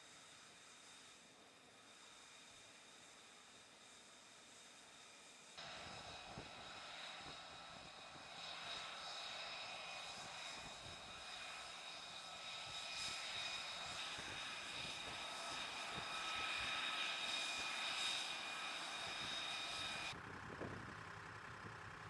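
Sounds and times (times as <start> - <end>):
jet engine whine: 0.0 - 21.1.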